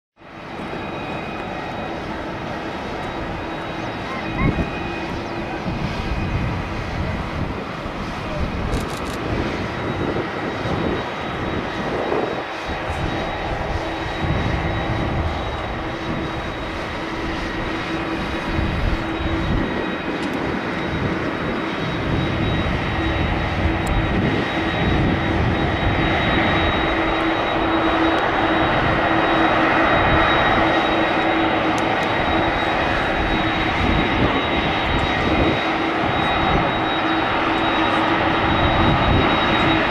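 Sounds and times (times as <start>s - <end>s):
jet engines running: 0.2s - 39.9s.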